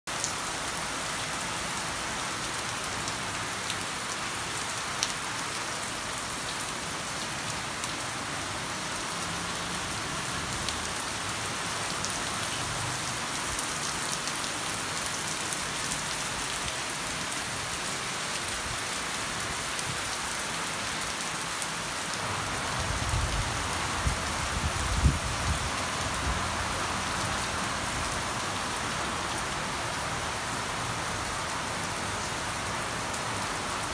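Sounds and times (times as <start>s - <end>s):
heavy rain on foliage: 0.1s - 33.9s.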